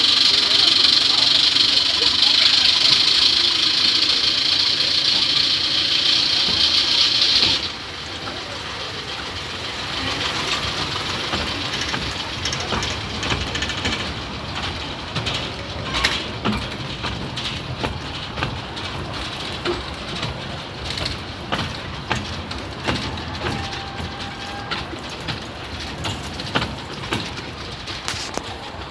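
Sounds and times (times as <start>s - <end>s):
knocks and rattles: 0.0s - 28.9s
loud steam hiss: 0.0s - 28.9s
miniature train rumbling: 0.0s - 28.9s.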